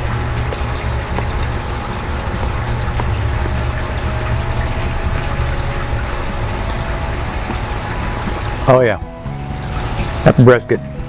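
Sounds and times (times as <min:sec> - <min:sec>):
low rumble: 0:00.0 - 0:10.2
running water rush: 0:00.0 - 0:11.0.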